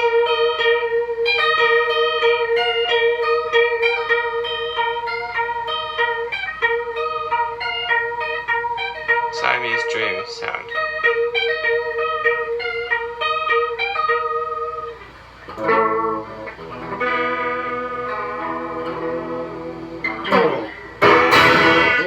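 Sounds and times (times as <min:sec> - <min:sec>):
electric guitar notes and chord: 0:00.0 - 0:22.0.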